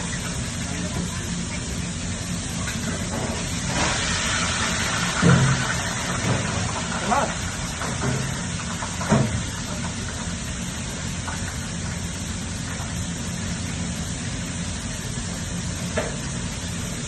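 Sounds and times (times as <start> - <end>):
kitchen hum and hiss: 0.0 - 17.0.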